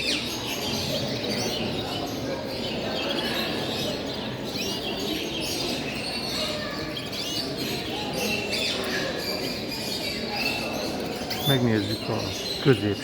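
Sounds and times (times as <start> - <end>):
caged birds chirping: 0.0 - 13.0
low hubbub of hall: 0.0 - 13.0.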